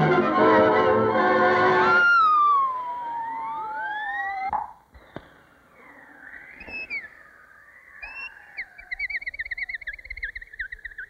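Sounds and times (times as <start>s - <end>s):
high whistled warbling tone: 1.8s - 11.0s.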